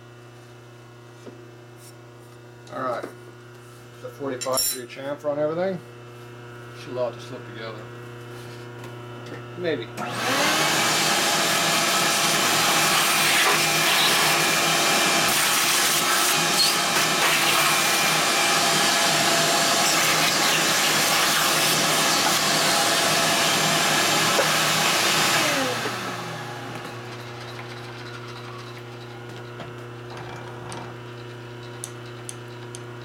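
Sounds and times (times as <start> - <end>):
shop vacuum running: 0.0 - 33.0.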